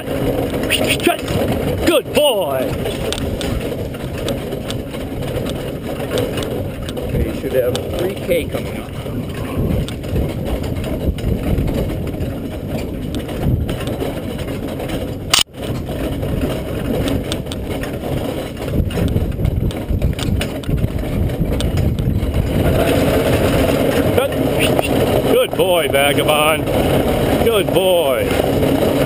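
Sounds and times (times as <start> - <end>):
carriage wheels and hooves rumbling: 0.0 - 29.0.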